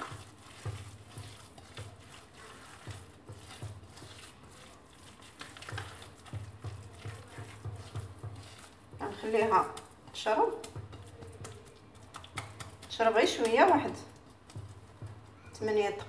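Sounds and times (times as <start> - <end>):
hand kneading wet dough: 0.0 - 16.0.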